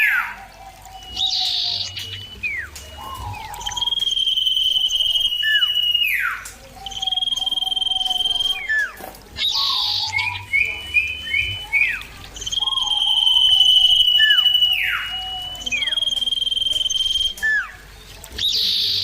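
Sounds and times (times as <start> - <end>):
bird singing high whistles: 0.0 - 19.0.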